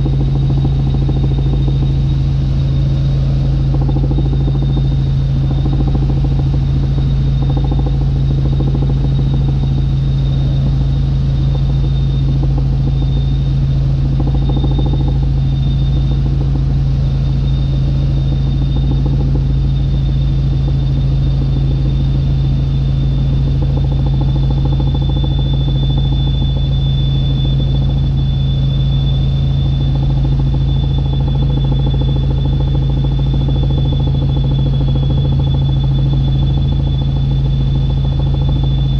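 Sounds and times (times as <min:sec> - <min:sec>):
helicopter engine and rotors drone: 0:00.0 - 0:38.9
high-pitched whine: 0:00.0 - 0:38.9.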